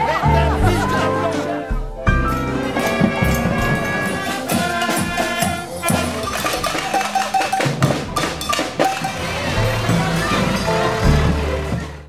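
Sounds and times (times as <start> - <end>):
music with drum beat: 0.5 - 12.0.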